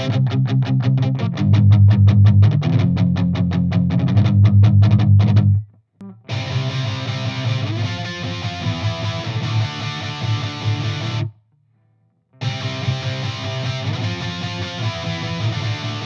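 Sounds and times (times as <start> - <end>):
electric guitar chords: 0.0 - 11.4, 12.4 - 16.0
electric guitar riff: 0.0 - 11.4, 12.4 - 16.0.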